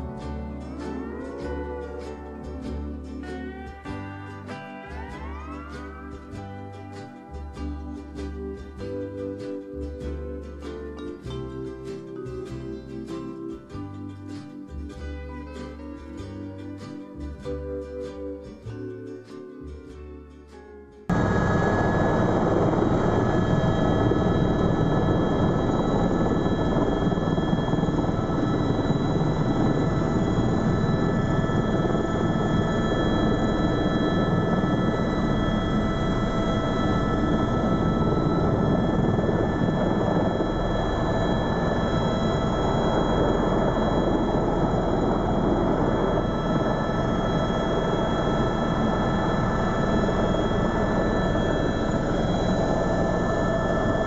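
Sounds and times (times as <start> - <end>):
helicopter engine and rotor: 0.0 - 11.1, 21.1 - 54.0
high whines: 0.0 - 15.1, 21.1 - 54.0.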